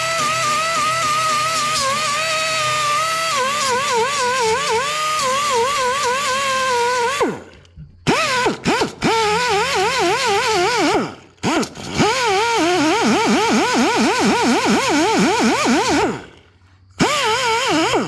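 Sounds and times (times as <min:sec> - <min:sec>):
grinder whining on metal: 0:00.0 - 0:18.0.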